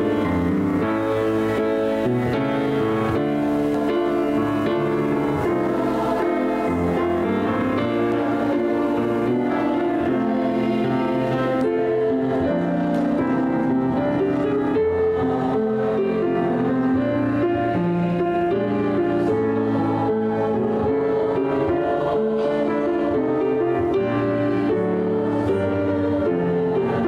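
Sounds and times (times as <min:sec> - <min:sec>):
church choir singing: 0:00.0 - 0:27.0
piano accompaniment: 0:00.0 - 0:27.0.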